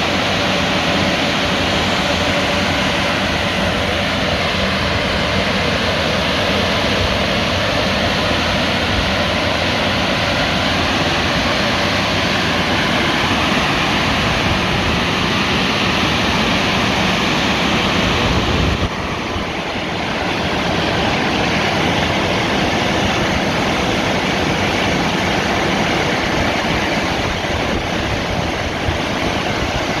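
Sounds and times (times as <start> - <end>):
car wash water spray and machinery: 0.0 - 30.0.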